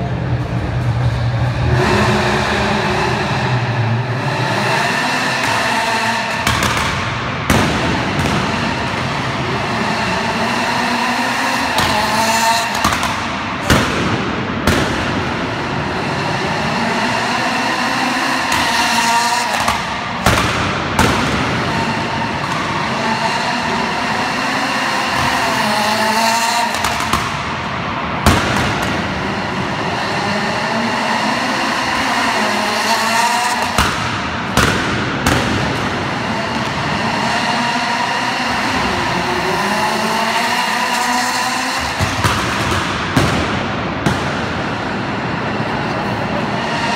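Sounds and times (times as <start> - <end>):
car engine revving: 0.0 - 46.9
loud exhaust bangs: 0.0 - 46.9.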